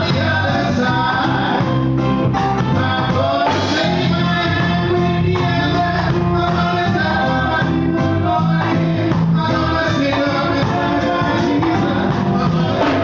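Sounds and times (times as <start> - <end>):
drum kit: 0.0 - 13.0
electric keyboard: 0.0 - 13.0
man singing: 0.0 - 13.0.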